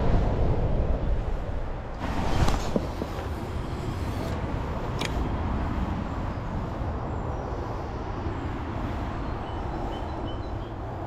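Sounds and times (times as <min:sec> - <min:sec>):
road traffic rumble: 0:00.0 - 0:11.0
wind: 0:00.0 - 0:11.0.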